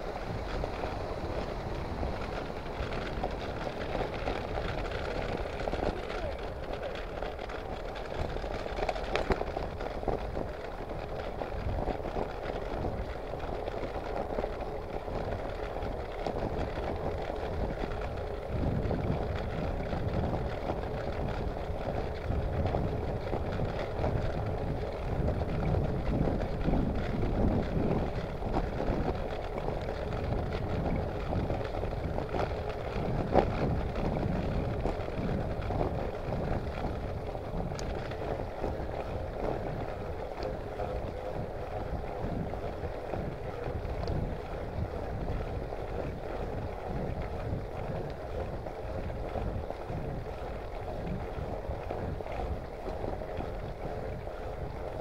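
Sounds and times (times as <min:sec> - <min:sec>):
bicycle tyres rolling on rough lane: 0:00.0 - 0:55.0
wind buffeting microphone: 0:00.0 - 0:55.0
bike rattling clicks: 0:00.2 - 0:55.0.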